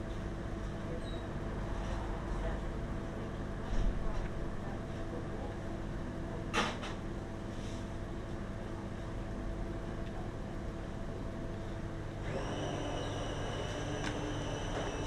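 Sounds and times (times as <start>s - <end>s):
machine hum with low drone: 0.0s - 15.0s.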